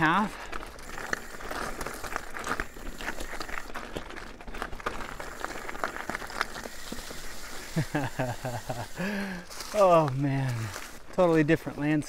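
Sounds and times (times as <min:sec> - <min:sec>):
bike clicking and knocking on rocks: 0:00.0 - 0:12.0
bike tyres rolling on gravel: 0:00.0 - 0:12.0.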